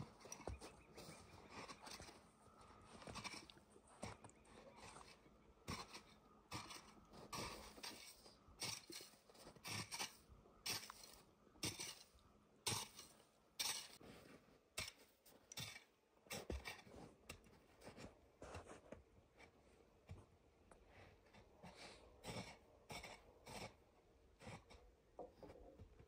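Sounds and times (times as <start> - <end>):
hand tool scraping packed snow: 0.0 - 17.2, 20.9 - 24.8.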